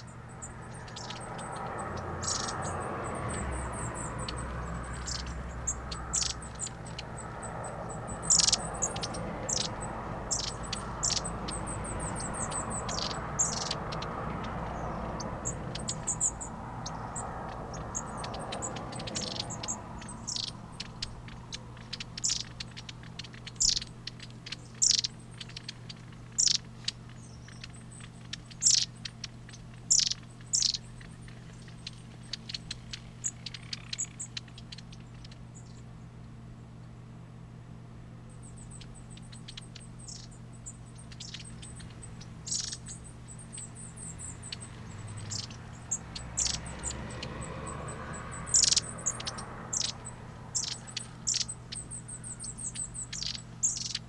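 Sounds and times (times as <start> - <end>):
birds giving short high calls: 0.0 - 35.9, 38.3 - 54.0
low background rumble: 0.0 - 54.0.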